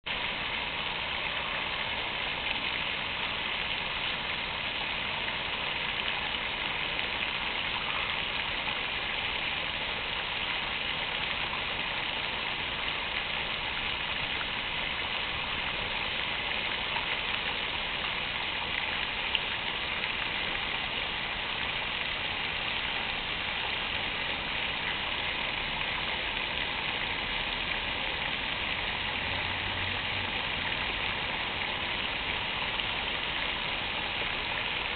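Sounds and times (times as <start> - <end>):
fountain water splashing: 0.1 - 34.9.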